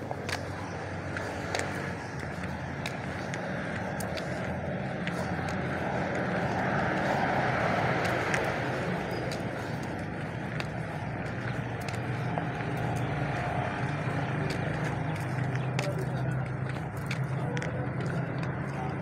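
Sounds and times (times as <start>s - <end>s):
footsteps on dirt path: 0.0s - 19.0s
vehicle engine running: 0.0s - 19.0s.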